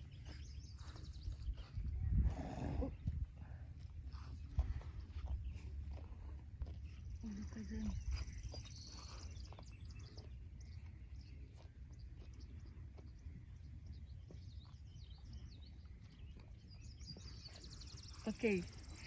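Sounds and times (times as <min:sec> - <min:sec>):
low steady rumble: 0:00.0 - 0:19.0
small birds chirping: 0:00.0 - 0:19.0.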